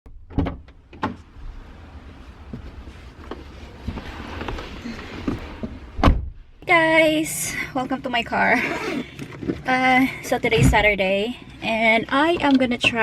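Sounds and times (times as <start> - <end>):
low rumble and hiss: 0.3 - 13.0.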